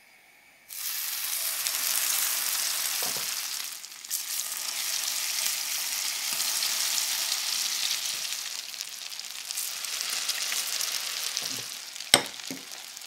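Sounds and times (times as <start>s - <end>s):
slices sizzling in hot oil: 0.7s - 13.0s.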